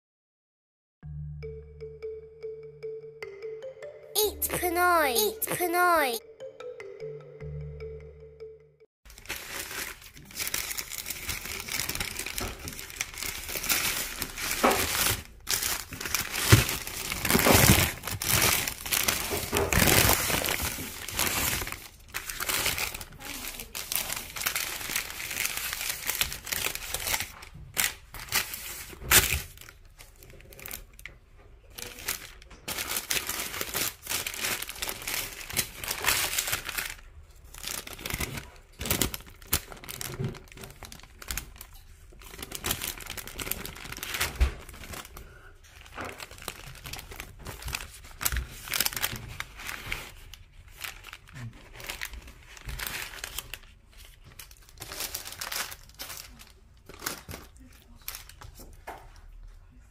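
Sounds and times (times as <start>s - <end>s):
paper wrapping crinkling: 9.1s - 31.1s, 31.8s - 58.6s.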